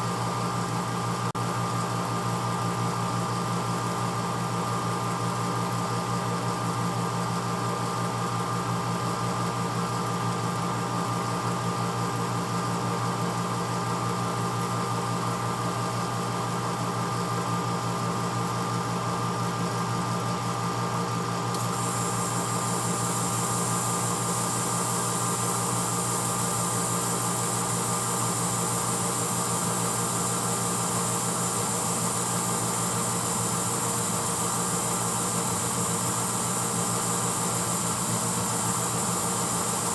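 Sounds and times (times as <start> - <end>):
dishwasher motor hum: 0.0 - 39.9.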